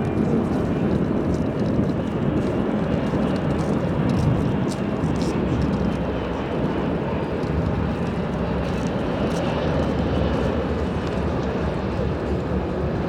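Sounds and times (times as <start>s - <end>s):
jet engines deep rumble: 0.0s - 13.0s.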